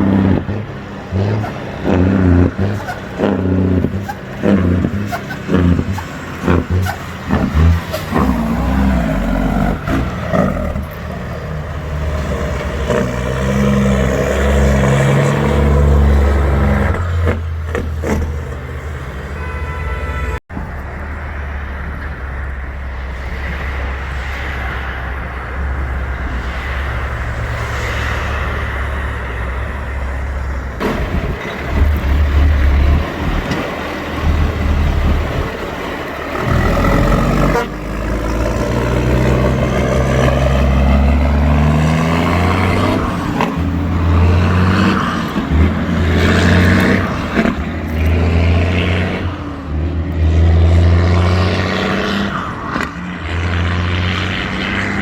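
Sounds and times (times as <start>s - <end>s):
vehicle accelerating: 0.0s - 19.4s, 20.6s - 55.0s
heavy vehicle engines humming: 0.0s - 55.0s.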